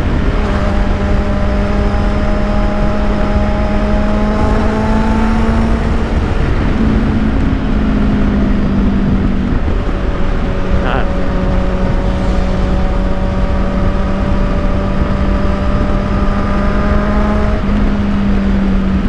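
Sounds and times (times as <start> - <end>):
motorcycle engine at speed: 0.0 - 19.0
wind rumble on microphone: 0.0 - 19.0.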